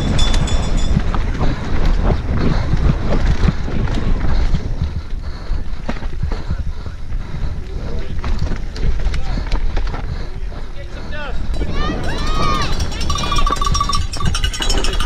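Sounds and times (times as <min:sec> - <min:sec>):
wind rushing over camera: 0:00.0 - 0:15.0.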